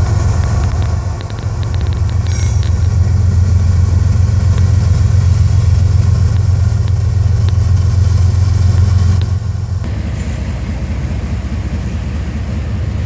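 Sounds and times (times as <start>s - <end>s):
diesel locomotive engine idling: 0.0s - 13.0s.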